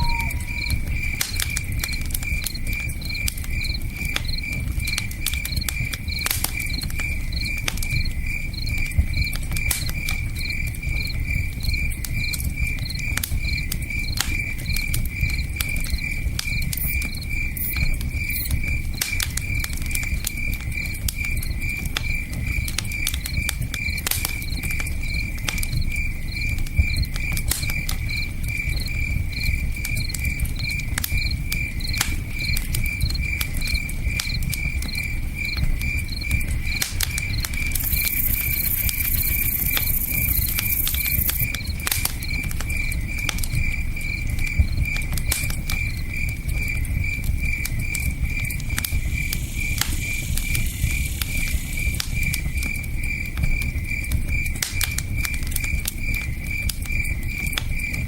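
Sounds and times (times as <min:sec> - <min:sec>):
campfire crackling and popping: 0:00.0 - 0:58.0
cricket chirping: 0:00.0 - 0:58.0.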